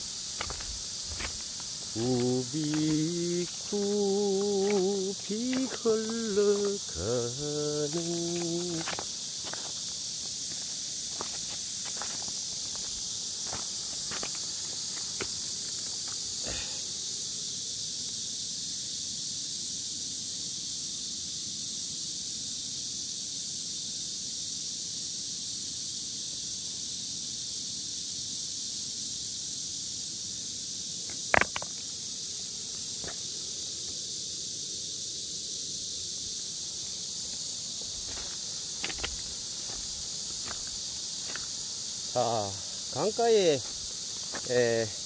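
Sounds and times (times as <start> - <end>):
high-pitched hiss: 0.0 - 45.0.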